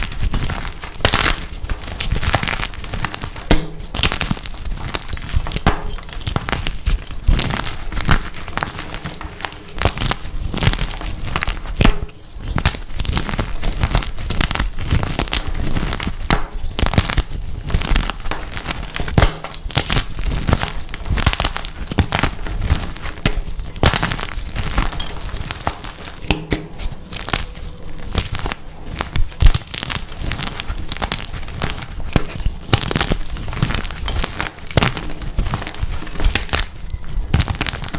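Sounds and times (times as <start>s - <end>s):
chalk crunching: 0.0s - 37.9s.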